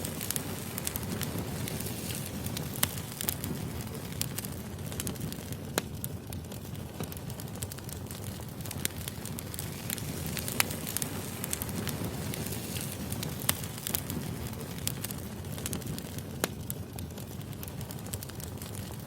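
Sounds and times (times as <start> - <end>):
fire crackling and popping: 0.0 - 19.0
firewood burning: 0.0 - 19.0.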